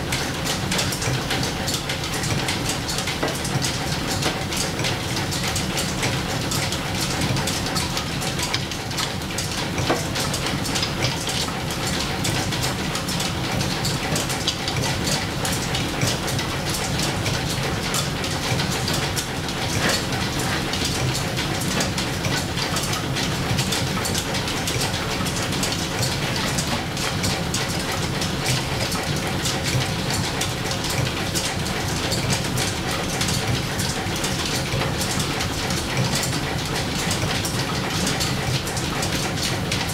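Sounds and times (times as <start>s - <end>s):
belt-driven lathe clattering: 0.0s - 39.9s.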